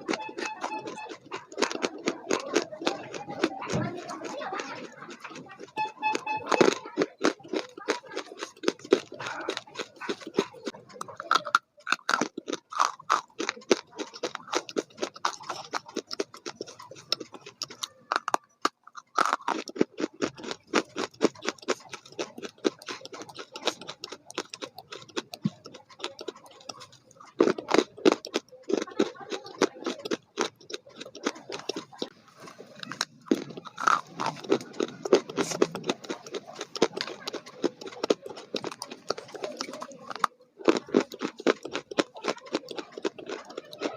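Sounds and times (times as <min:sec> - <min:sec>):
food crunching while chewed: 0:00.0 - 0:43.9.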